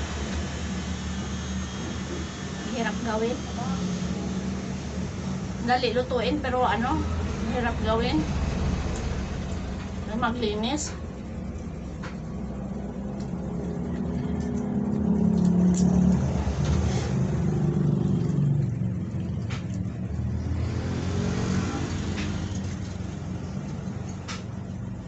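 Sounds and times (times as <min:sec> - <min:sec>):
passing motor vehicle engine: 0:00.0 - 0:25.0.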